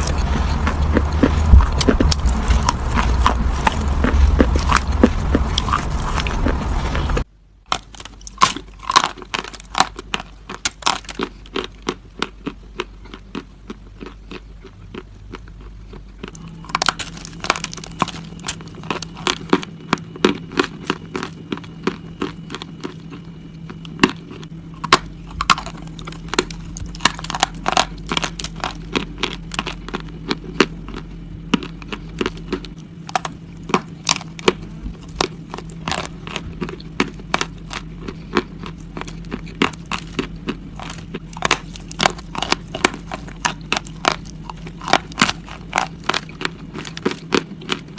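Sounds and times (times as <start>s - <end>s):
crunching of brittle food chewed: 0.0s - 47.9s.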